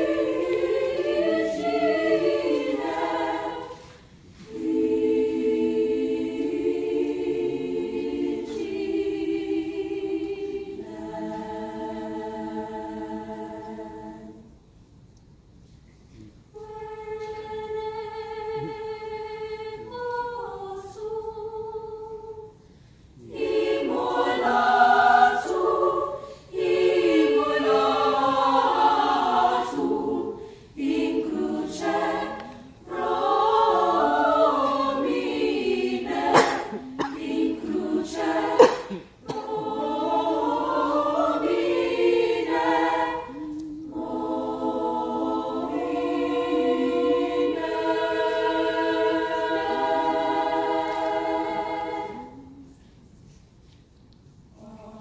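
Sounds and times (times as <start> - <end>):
mixed choir singing: 0.0 - 14.7, 16.5 - 53.1, 54.5 - 55.0.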